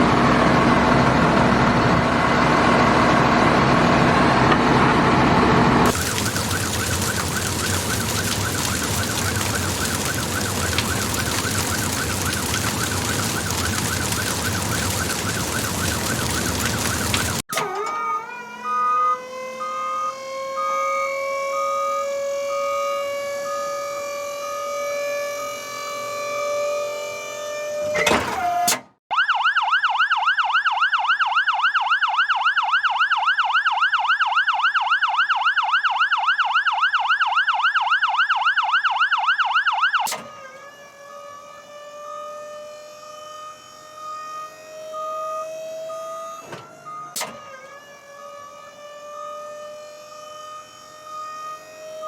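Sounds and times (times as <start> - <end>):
fire truck siren: 0.0 - 52.0.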